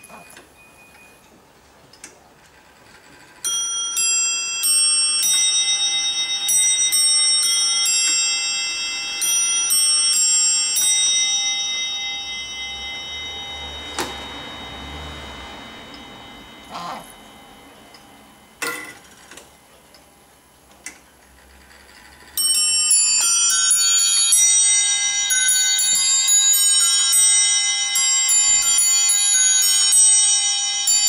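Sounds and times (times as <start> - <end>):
clock chiming on bells: 3.1 - 20.5, 21.7 - 31.0.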